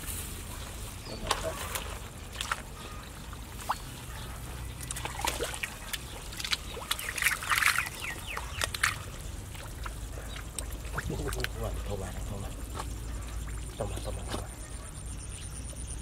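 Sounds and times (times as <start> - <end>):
mud and water squelching and splashing: 0.0 - 14.6.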